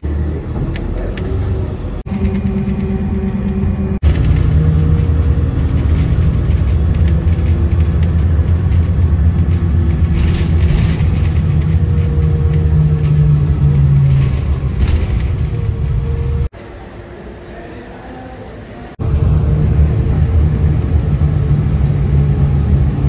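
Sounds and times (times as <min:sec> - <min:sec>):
car engine and tyre rumble: 0:00.0 - 0:16.6, 0:19.0 - 0:23.0.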